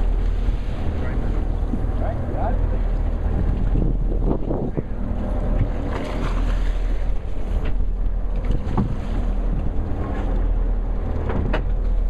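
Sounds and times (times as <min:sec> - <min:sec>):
boat engine low rumble: 0:00.0 - 0:12.0
water washing along hull: 0:00.0 - 0:12.0
wind buffeting microphone: 0:00.0 - 0:12.0.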